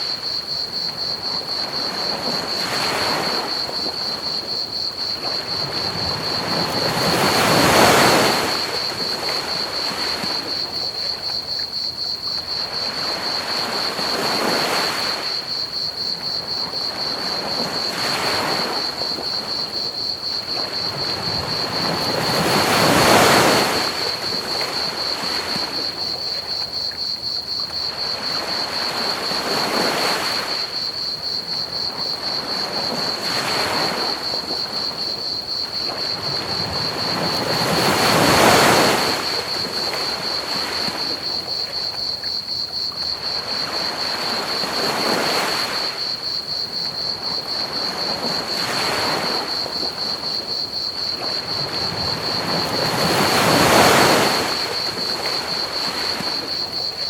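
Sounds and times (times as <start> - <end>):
ocean waves breaking on beach: 0.0 - 11.2, 12.5 - 26.5, 27.8 - 57.0
crickets trilling: 0.0 - 57.0.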